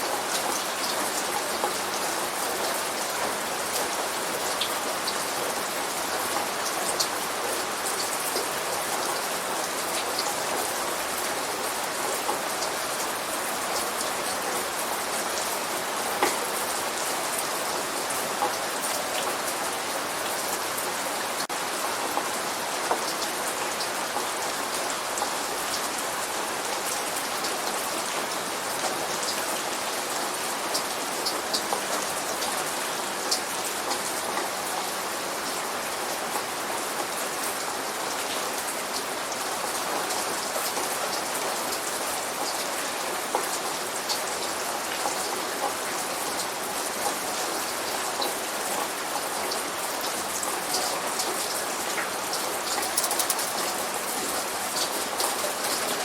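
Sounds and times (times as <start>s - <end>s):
light rain hiss: 0.0s - 56.0s
raindrops ticking on a surface: 0.0s - 56.0s.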